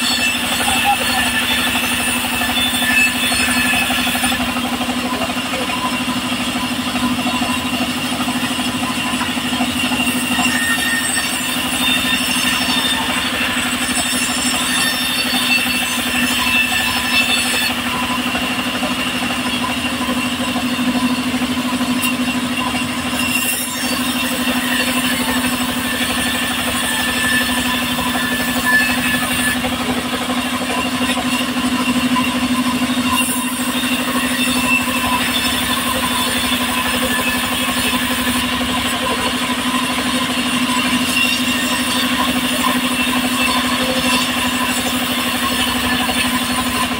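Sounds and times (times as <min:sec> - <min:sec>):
sawmill saw humming: 0:00.0 - 0:46.9.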